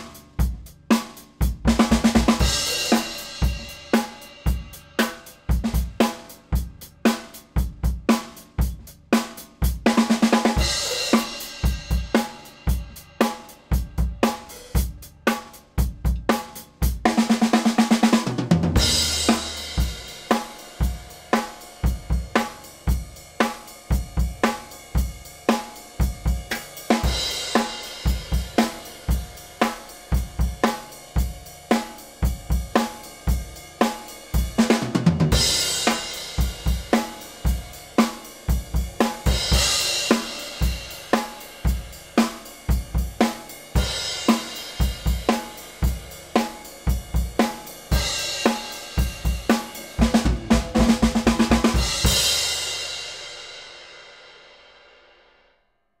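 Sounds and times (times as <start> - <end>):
drum kit steady beat: 0.0 - 55.0.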